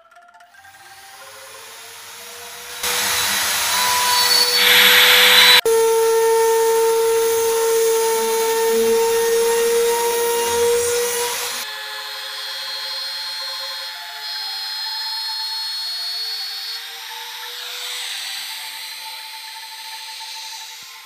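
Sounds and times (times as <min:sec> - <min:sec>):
trimmer router cutting wood: 0:00.6 - 0:21.0.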